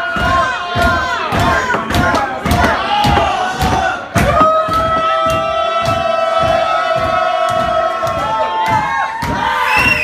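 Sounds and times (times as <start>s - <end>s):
drum hits on steady beat: 0.0s - 9.6s.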